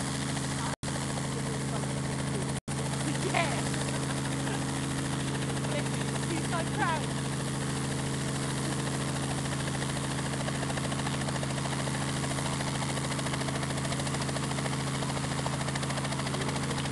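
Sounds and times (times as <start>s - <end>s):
helicopter engine and rotor drone: 0.0s - 16.9s.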